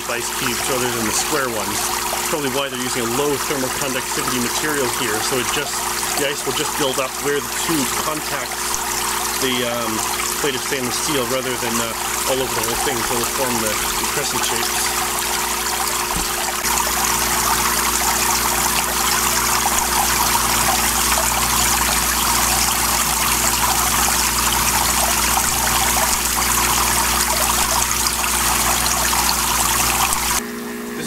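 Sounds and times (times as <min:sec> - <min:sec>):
water rushing down metal plates: 0:00.0 - 0:30.4.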